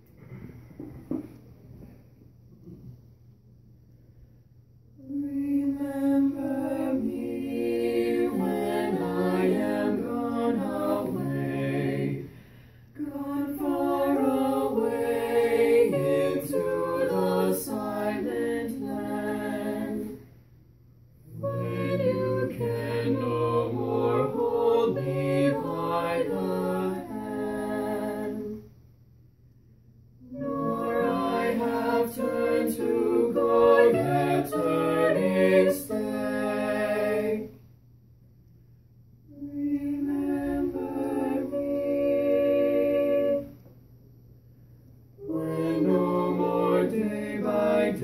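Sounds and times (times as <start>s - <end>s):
vocal quartet singing a cappella: 5.0s - 20.5s, 21.1s - 28.8s, 30.2s - 37.7s, 39.3s - 43.9s, 44.6s - 48.0s.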